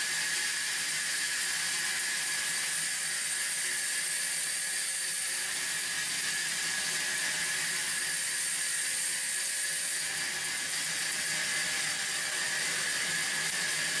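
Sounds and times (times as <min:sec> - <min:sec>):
band saw running: 0:00.0 - 0:14.0.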